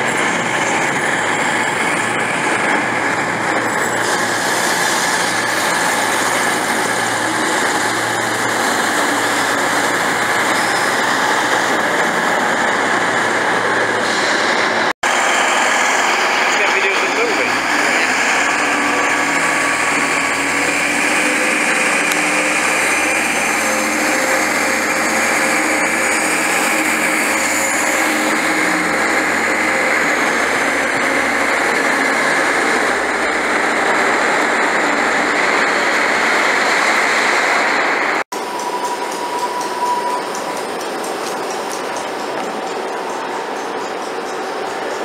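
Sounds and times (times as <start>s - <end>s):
diesel train running past: 0.0s - 45.0s
quieter rail noise: 0.0s - 45.0s.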